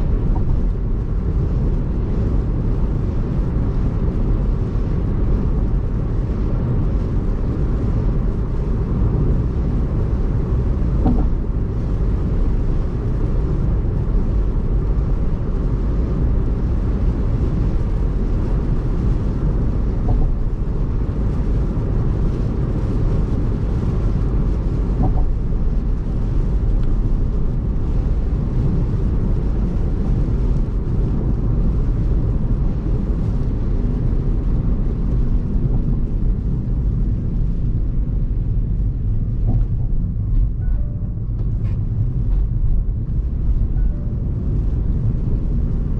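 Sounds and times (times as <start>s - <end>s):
car road and tyre noise: 0.0s - 45.9s.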